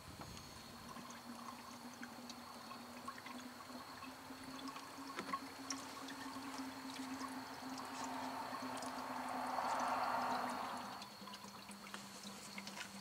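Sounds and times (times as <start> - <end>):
coolant trickling into a tank: 0.0 - 13.0.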